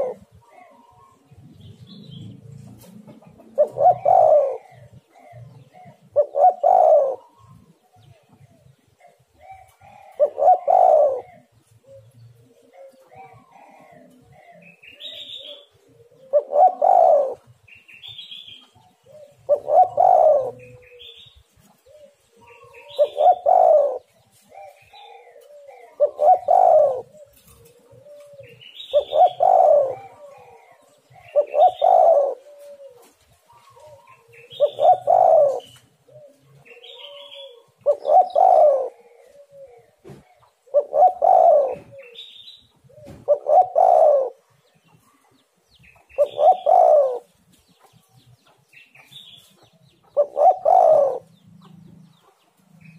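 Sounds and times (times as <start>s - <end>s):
dove cooing: 0.0s - 48.1s, 49.0s - 52.9s.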